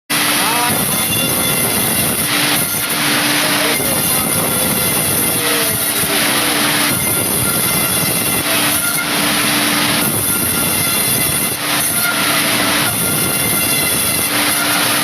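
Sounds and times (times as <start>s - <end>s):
woodworking machine running: 0.1s - 15.0s.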